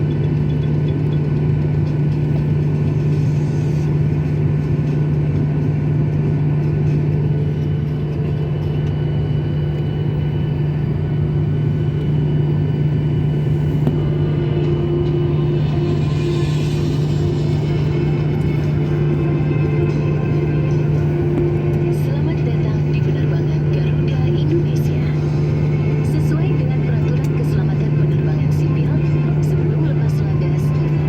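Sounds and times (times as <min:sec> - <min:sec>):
jet engine cabin hum: 0:00.0 - 0:31.0.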